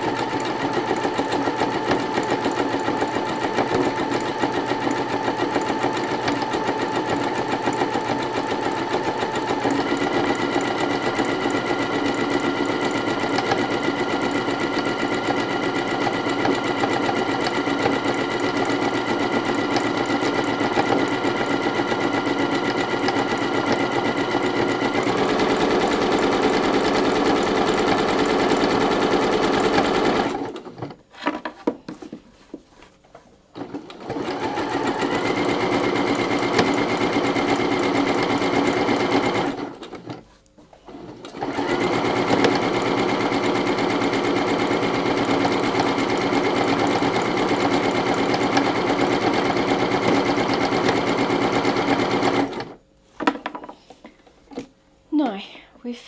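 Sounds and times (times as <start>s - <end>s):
sewing machine running fast: 0.0s - 30.7s, 34.0s - 40.0s, 41.3s - 52.8s.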